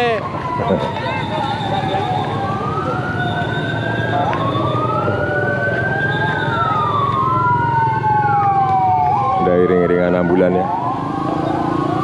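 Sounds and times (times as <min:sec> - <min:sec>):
ambulance sirens wailing: 0:00.0 - 0:12.0
street traffic rumble: 0:00.0 - 0:12.0.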